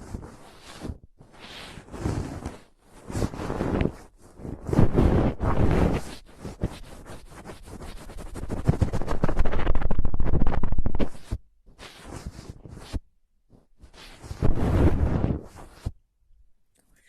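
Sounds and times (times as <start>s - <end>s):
close-up scratching and crackling: 0.0s - 16.0s.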